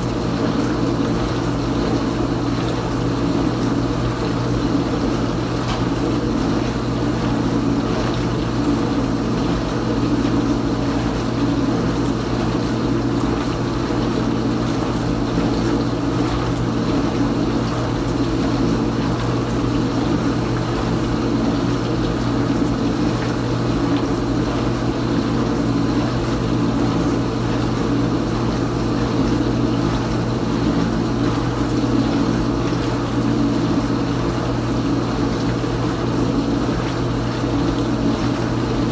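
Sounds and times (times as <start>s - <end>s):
dishwasher pump humming: 0.0s - 38.9s.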